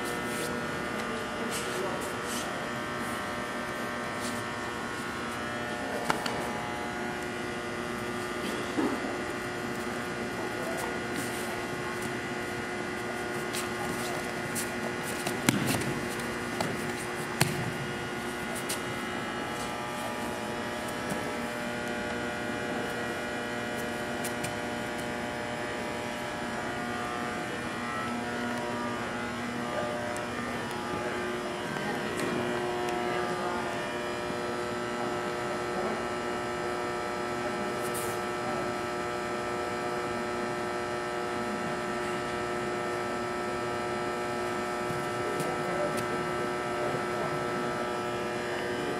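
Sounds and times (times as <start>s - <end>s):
steady hum: 0.0s - 48.9s.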